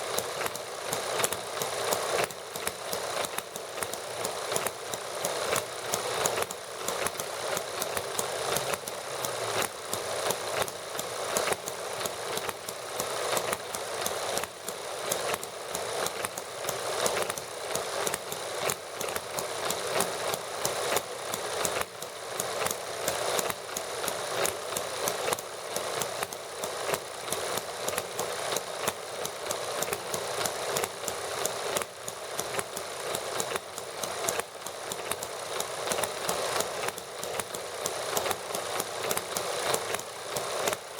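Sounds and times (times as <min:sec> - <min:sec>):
small model engines running: 0:00.0 - 0:40.9.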